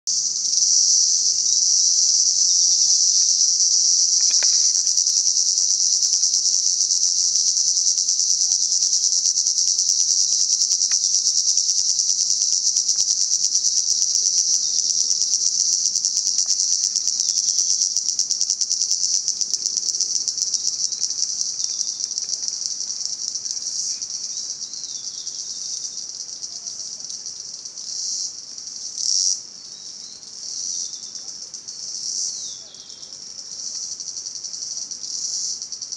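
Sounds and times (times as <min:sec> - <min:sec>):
cicadas buzzing: 0:00.1 - 0:35.9.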